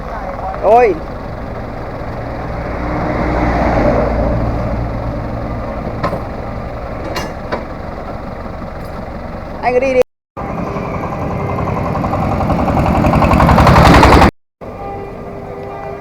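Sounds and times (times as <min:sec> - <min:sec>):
tractor engine running: 0:00.0 - 0:14.3.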